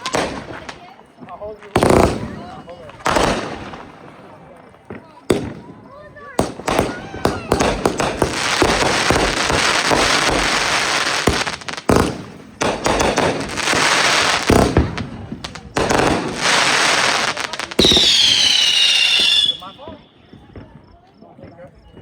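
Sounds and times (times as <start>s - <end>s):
firework whistles: 0.0s - 20.6s
fireworks crackling and banging: 0.0s - 22.0s.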